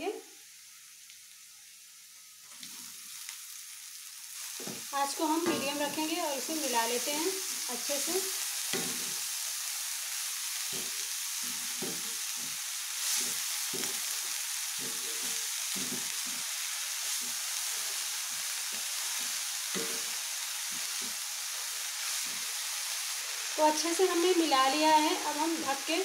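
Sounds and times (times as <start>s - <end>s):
greens sizzling in hot oil: 0.0s - 26.0s.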